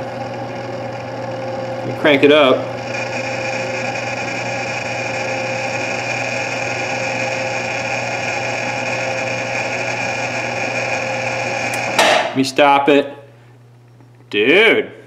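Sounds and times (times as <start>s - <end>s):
lathe humming with high whine: 0.0s - 14.4s.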